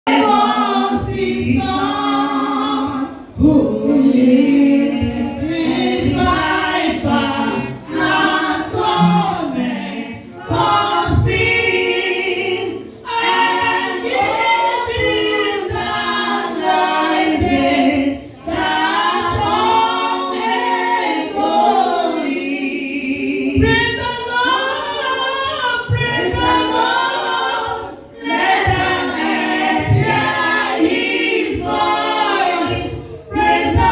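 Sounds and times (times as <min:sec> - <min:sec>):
choir singing gospel: 0:00.0 - 0:33.9.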